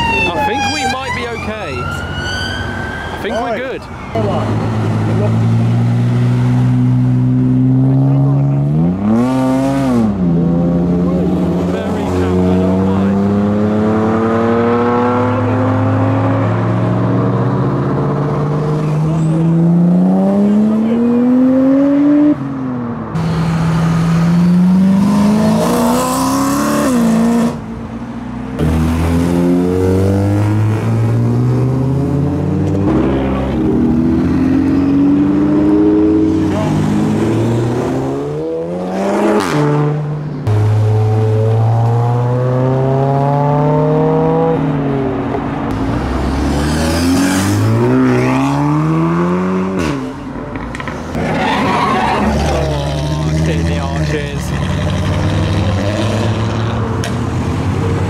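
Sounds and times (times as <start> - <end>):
cars accelerating through gears: 4.5 - 22.7, 23.4 - 27.6, 28.6 - 44.8, 45.7 - 50.2, 50.8 - 58.0.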